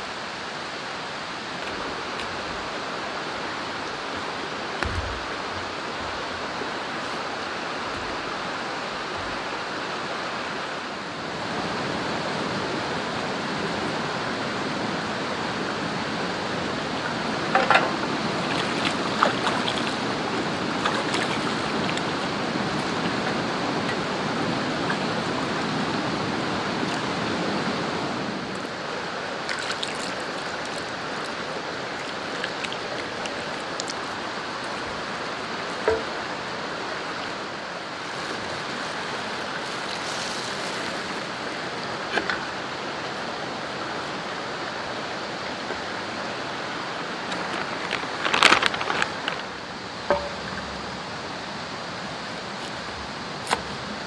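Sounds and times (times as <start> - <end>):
river running over rocks: 0.0 - 54.0.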